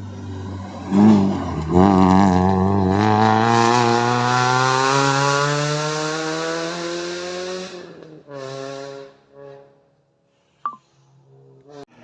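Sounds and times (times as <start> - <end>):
rally car engine revving: 0.0 - 9.7.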